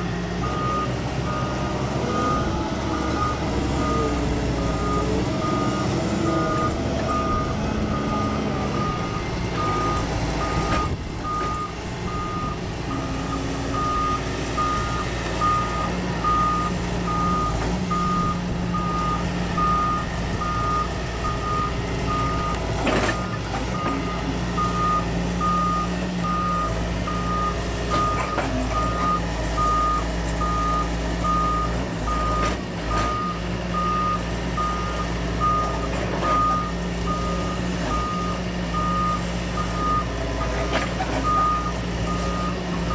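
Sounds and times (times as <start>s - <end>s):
reversing alarm beeping: 0.4s - 40.5s, 41.2s - 42.9s.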